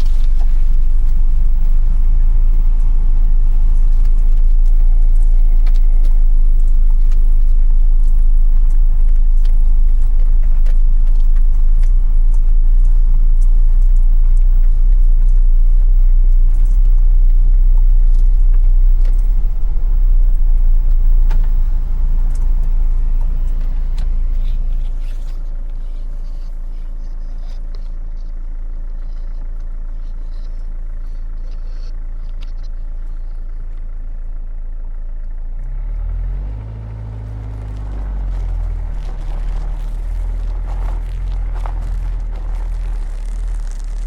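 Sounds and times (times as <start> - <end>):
truck engine and road rumble: 0.0 - 44.0.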